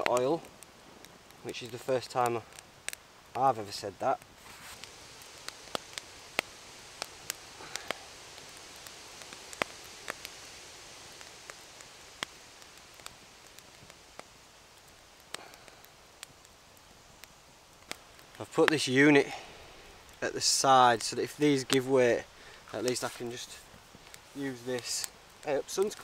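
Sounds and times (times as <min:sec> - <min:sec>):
faint steady hiss: 0:00.0 - 0:26.0
fire crackling and popping: 0:00.0 - 0:26.0.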